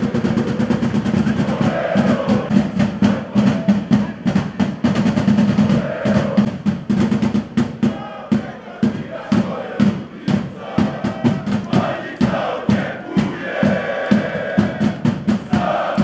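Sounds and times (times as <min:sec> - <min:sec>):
music with fast drumming: 0:00.0 - 0:16.0.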